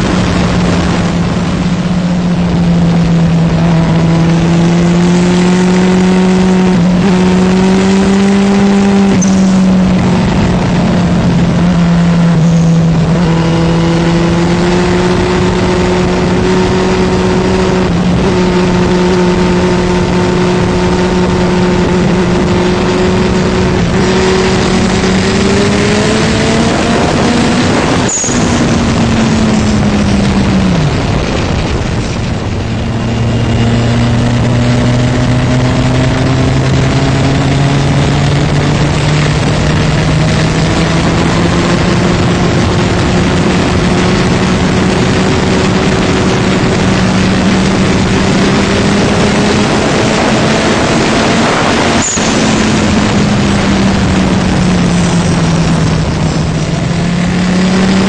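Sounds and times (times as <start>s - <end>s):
motorcycle engine running hard: 0.0s - 58.0s
wind rush on microphone: 0.0s - 58.0s.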